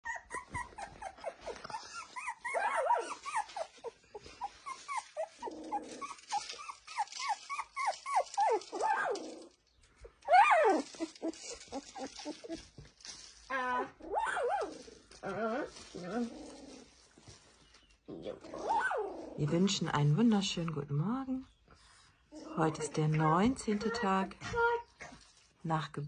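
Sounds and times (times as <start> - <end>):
puppies whimpering and squeaking: 0.0 - 19.6, 21.6 - 25.3.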